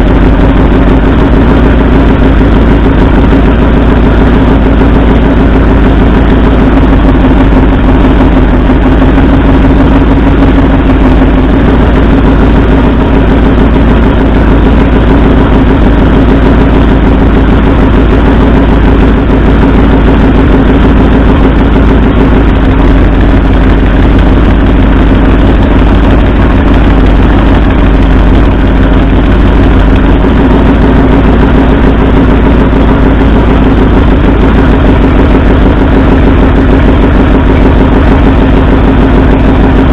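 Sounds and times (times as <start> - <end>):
engine idling unevenly: 0.0 - 39.9.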